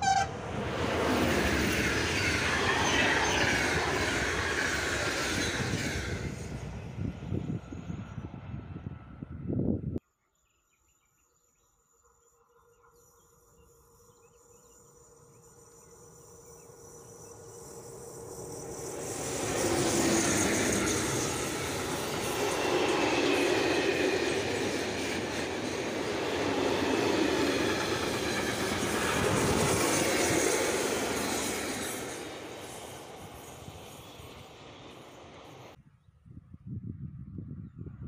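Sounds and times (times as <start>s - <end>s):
freight train passing: 0.0s - 10.0s, 12.9s - 35.8s.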